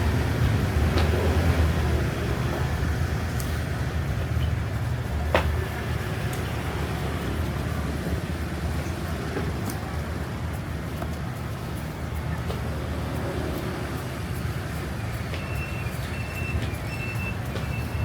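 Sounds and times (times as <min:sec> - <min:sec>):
low rumble of traffic noise: 0:00.0 - 0:18.0.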